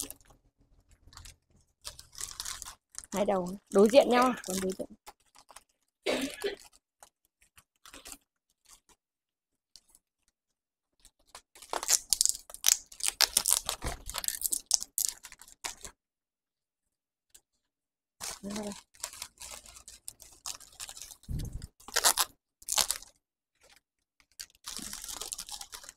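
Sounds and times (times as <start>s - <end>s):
wrapping paper crinkling: 0.0s - 9.0s, 9.6s - 16.0s, 18.2s - 25.9s.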